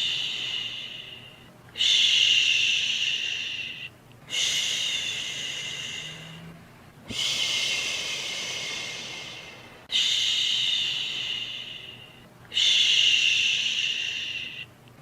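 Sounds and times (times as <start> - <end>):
person shushing: 0.0 - 14.7.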